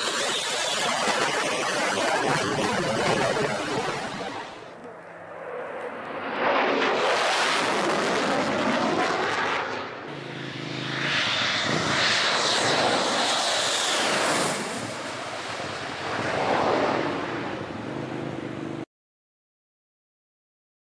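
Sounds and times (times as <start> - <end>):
jet fighters flying overhead: 0.0 - 18.9.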